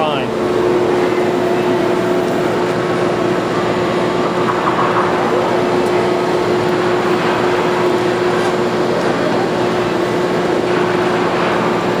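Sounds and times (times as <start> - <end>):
screw press machine hum: 0.0 - 12.0.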